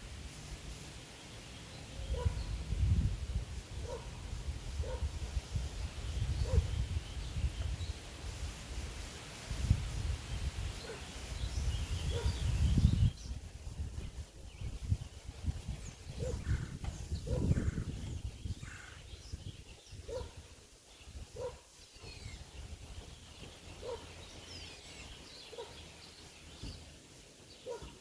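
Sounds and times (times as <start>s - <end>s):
wind buffeting microphone: 2.0s - 8.9s, 9.5s - 25.3s.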